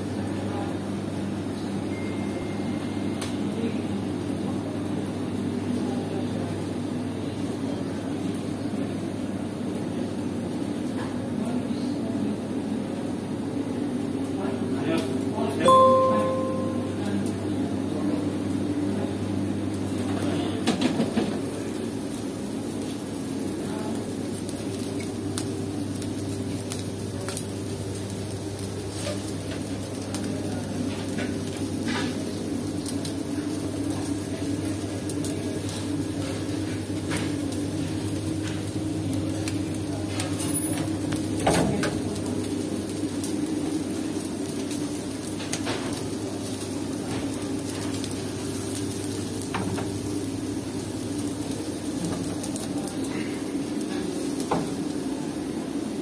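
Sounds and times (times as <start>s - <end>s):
chicken sizzling on a grill: 0.0s - 16.1s, 17.0s - 56.0s
low mechanical hum: 0.0s - 56.0s.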